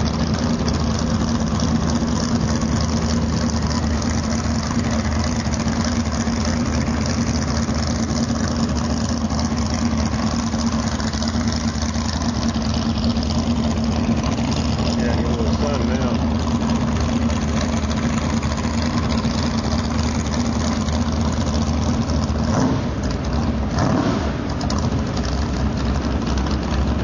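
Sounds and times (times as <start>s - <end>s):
boat engine running low: 0.0s - 27.0s.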